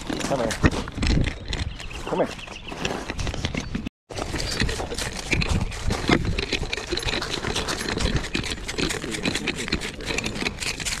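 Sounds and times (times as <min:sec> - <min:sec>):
collar rubbing microphone: 0:00.0 - 0:11.0
paws crunching on gravel: 0:00.0 - 0:11.0.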